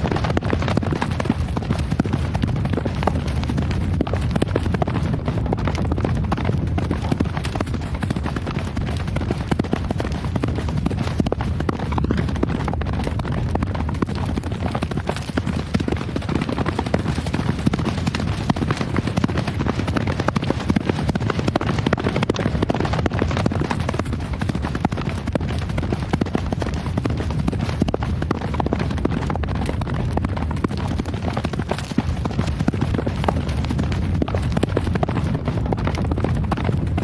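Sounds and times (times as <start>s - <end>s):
horse hooves galloping: 0.0s - 37.0s.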